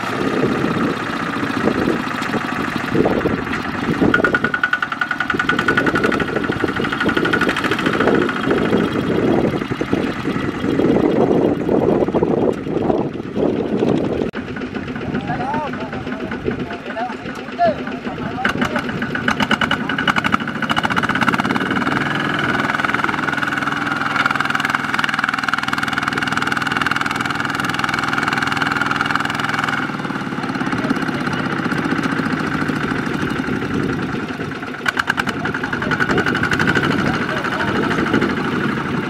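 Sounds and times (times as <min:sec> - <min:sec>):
diesel engine running under load: 0:00.0 - 0:39.0
wheels churning in mud: 0:00.0 - 0:39.0.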